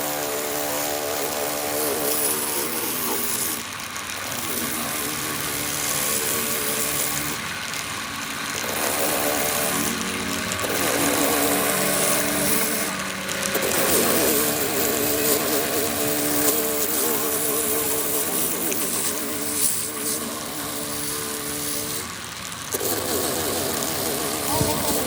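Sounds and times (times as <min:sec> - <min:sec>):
engine running with wavering pitch: 0:00.0 - 0:25.0.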